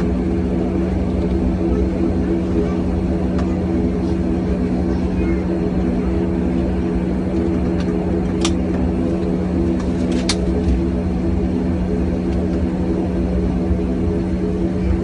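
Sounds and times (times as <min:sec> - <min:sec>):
airliner engine drone in cabin: 0:00.0 - 0:15.0
constant low hum: 0:00.0 - 0:15.0.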